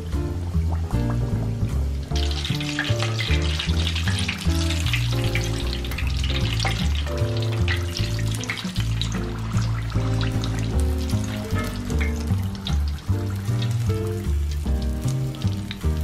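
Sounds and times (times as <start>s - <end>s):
background music: 0.0s - 16.0s
food deep-frying in hot oil: 0.0s - 16.0s.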